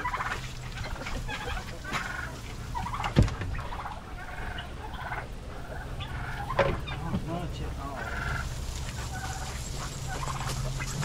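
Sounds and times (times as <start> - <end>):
poultry calling: 0.0 - 11.0.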